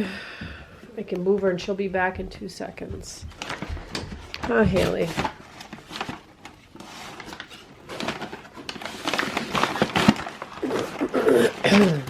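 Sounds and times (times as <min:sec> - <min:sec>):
rustling and handling noise: 0:00.5 - 0:12.0.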